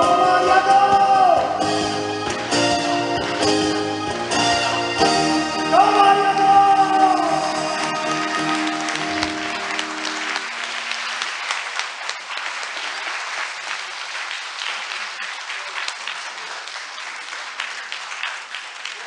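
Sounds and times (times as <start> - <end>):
audience applauding: 2.2 - 19.0.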